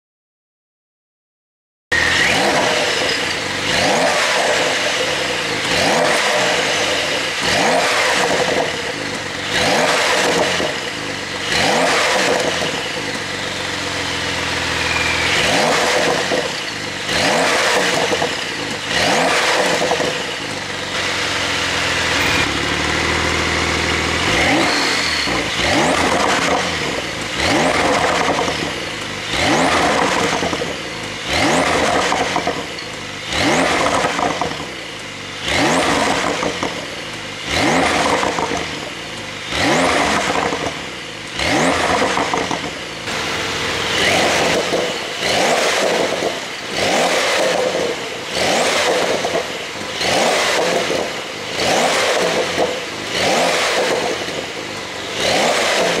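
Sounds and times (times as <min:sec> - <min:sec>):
car engine revving: 0:01.9 - 0:56.0.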